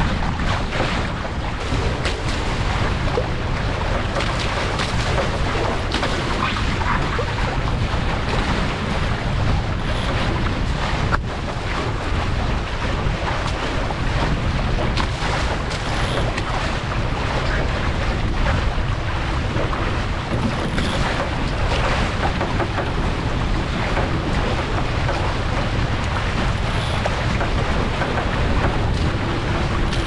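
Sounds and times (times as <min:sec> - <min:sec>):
water splashing along hulls: 0:00.0 - 0:30.0
wind buffeting microphone: 0:00.0 - 0:30.0.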